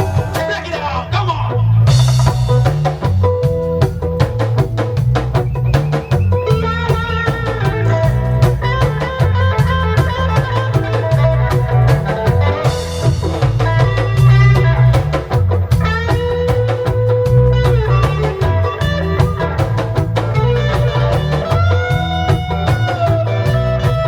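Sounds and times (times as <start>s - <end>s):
drum kit beat: 0.0s - 24.0s
guitar: 0.0s - 24.0s
heavy bass line: 0.0s - 24.0s.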